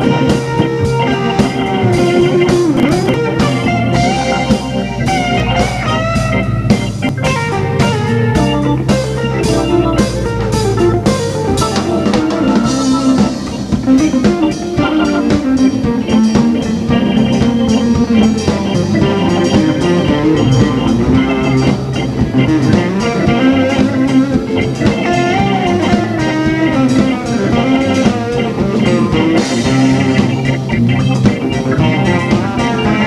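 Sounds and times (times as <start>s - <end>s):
bass guitar: 0.0s - 33.0s
drum kit: 0.0s - 33.0s
electric guitar: 0.0s - 33.0s.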